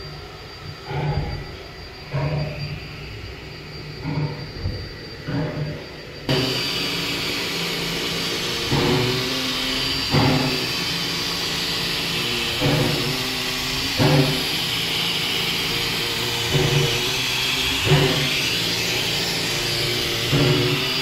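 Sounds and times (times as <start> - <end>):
low-pitched steam pulse: 0.0 - 21.0
steam hissing: 0.0 - 21.0.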